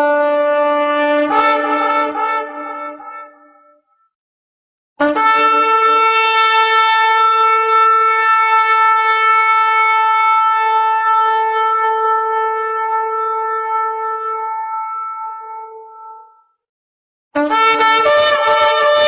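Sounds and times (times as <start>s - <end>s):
shofar long held note: 0.0s - 3.5s, 5.0s - 16.4s, 17.4s - 19.0s.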